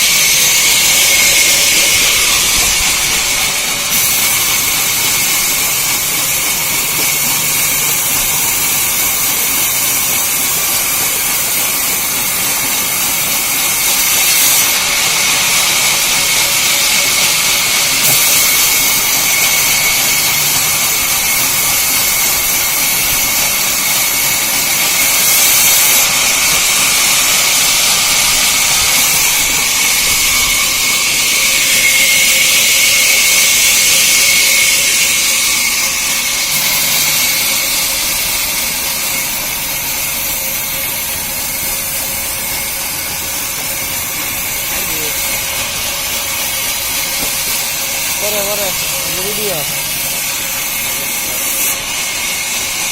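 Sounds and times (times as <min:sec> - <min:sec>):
sawmill saw running: 0:00.0 - 0:52.9.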